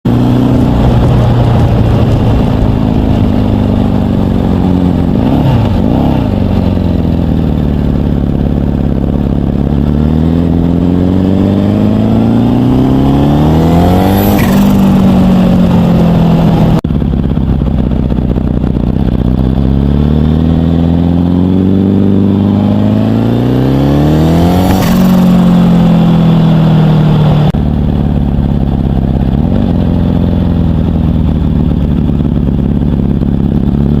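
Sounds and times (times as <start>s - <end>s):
turbocharged van engine accelerating: 0.0s - 34.0s.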